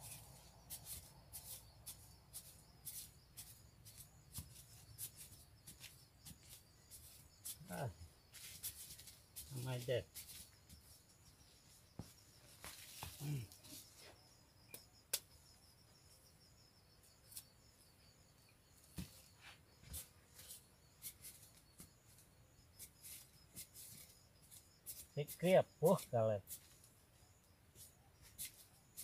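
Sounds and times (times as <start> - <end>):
scraping and digging dry earth: 0.0 - 15.4, 18.6 - 29.0.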